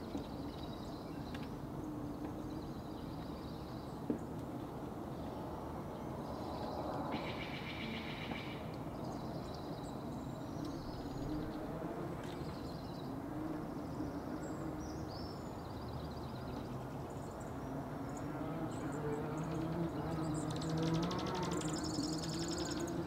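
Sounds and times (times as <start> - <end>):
low background noise: 0.0 - 23.0
songbirds trilling: 0.0 - 23.0.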